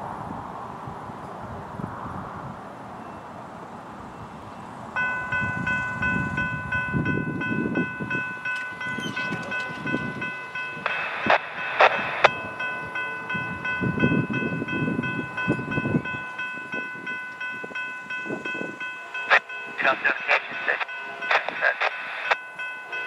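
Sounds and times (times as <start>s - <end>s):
railroad crossing bell dinging: 4.1s - 23.0s.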